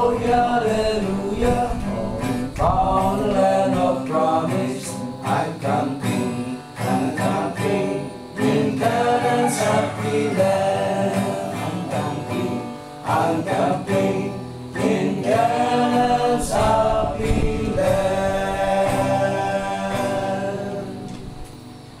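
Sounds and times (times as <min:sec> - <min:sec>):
men singing a hymn: 0:00.0 - 0:21.9
acoustic guitar: 0:00.0 - 0:22.0.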